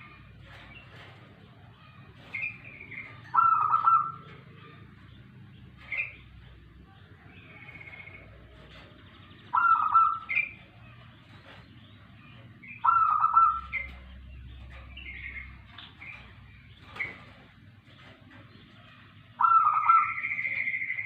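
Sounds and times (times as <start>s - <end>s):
dove cooing: 0.0s - 6.7s, 7.3s - 16.2s, 16.8s - 21.0s.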